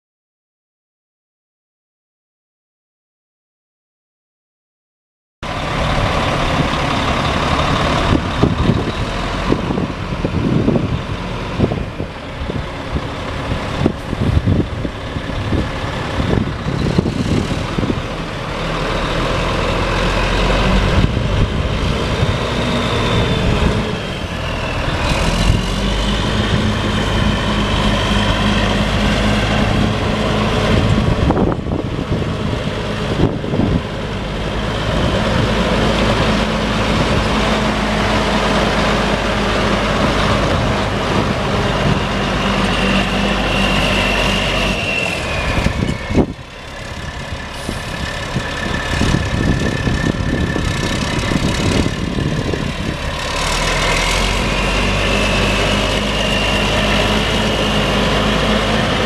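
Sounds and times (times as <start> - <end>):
diesel truck engine running: 5.4 - 59.0.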